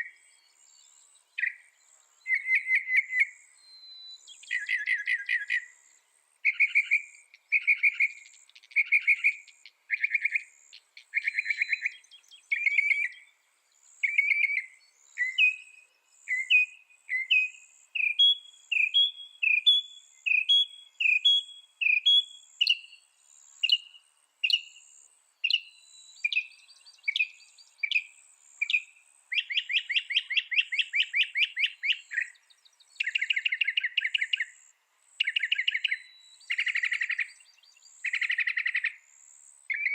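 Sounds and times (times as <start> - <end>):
mockingbird singing: 1.3 - 13.4, 14.0 - 23.0, 23.6 - 34.6, 35.2 - 39.0.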